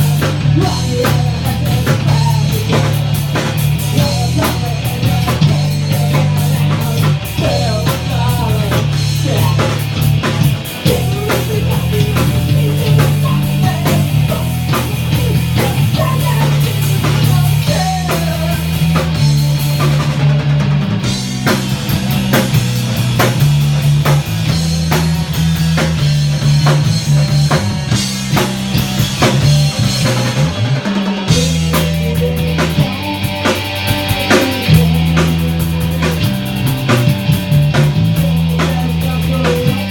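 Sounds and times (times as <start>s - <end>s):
rock music with drums and guitar: 0.0s - 39.9s.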